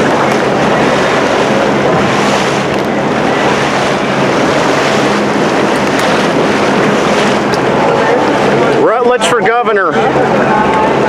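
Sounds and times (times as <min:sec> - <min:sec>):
wind buffeting microphone: 0:00.0 - 0:09.4
boat engine drone: 0:00.0 - 0:11.0
water rushing along hull: 0:00.0 - 0:11.0.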